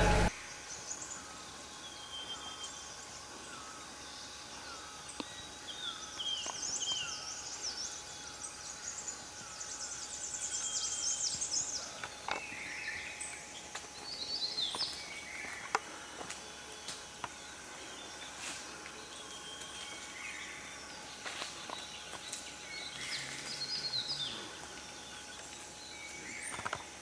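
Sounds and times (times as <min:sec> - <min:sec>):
small birds singing: 0:00.0 - 0:27.0.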